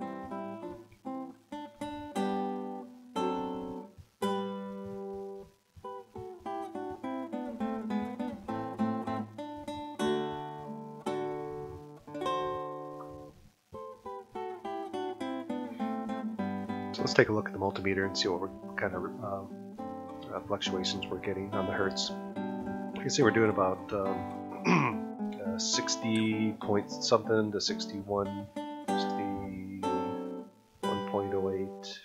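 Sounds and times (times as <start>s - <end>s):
guitar picking notes and chords: 0.0s - 32.0s.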